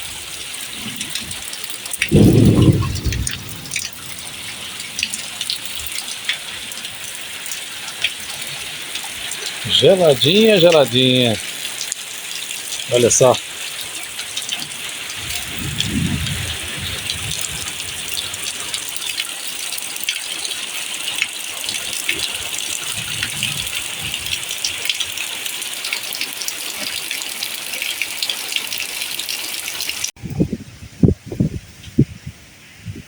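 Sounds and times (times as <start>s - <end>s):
rain pouring down: 0.0s - 32.3s.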